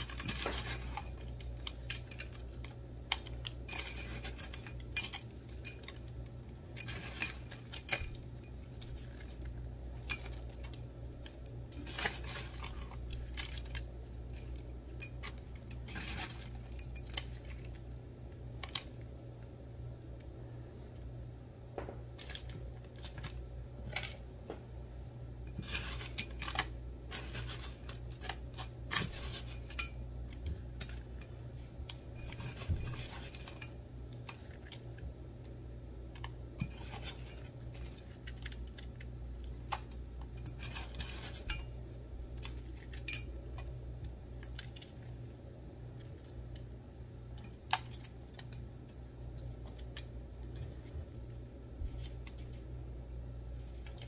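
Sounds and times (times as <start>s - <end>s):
ice crunching and rattling: 0.0s - 18.0s, 22.1s - 24.2s, 25.5s - 45.3s, 47.3s - 51.0s.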